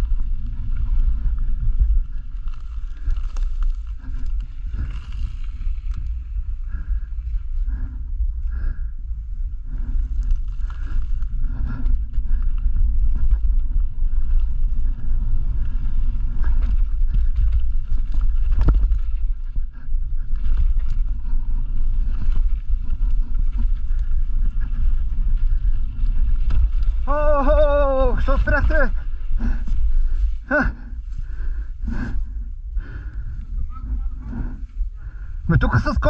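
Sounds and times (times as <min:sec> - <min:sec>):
bike rattling over roots: 0:00.0 - 0:07.1, 0:09.8 - 0:32.1
wind rumble on microphone: 0:00.0 - 0:36.0.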